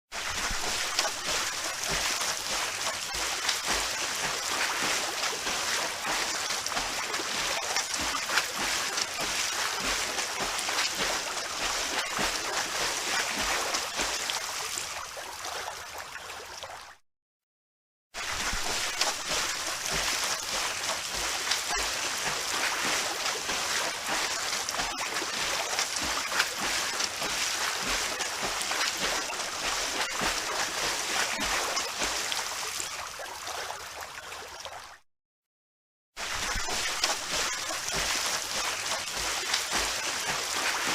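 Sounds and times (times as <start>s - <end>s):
water splashing in a pool: 0.1s - 17.0s, 18.2s - 35.0s, 36.2s - 40.9s.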